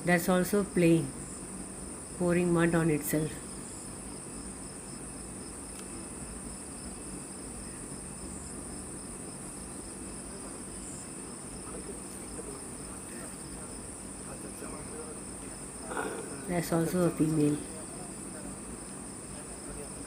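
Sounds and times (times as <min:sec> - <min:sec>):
insect chorus chirring: 0:00.0 - 0:20.0.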